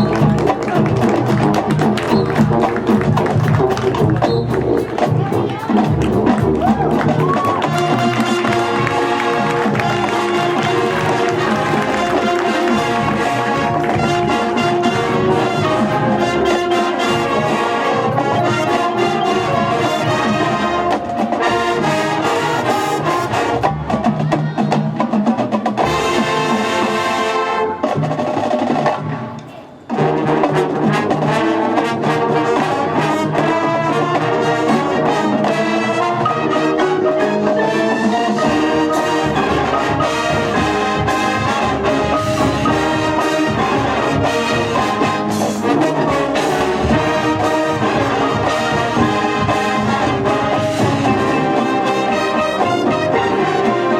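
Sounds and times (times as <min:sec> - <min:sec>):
brass band playing: 0:00.0 - 0:53.9.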